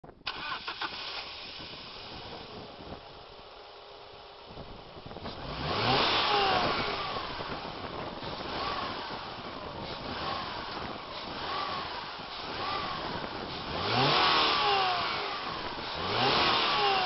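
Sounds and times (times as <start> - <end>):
car engine running and revving: 1.3 - 17.0.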